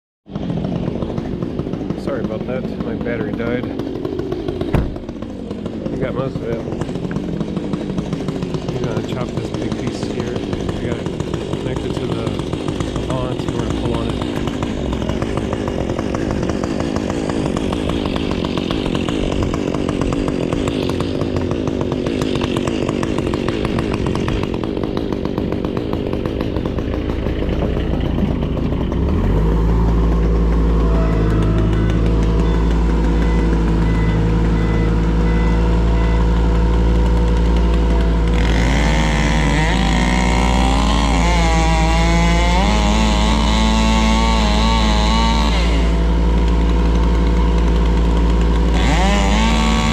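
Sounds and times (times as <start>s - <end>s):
chainsaw cutting wood: 0.3s - 49.9s
loader engine whining: 0.3s - 49.9s.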